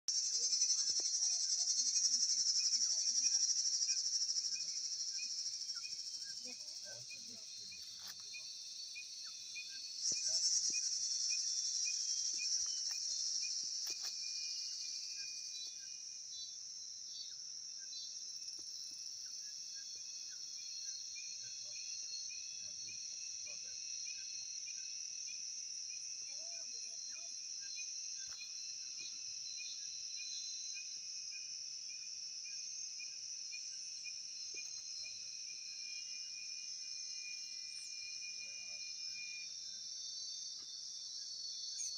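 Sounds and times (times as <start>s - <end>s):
insects buzzing shrilly: 0.1s - 41.9s.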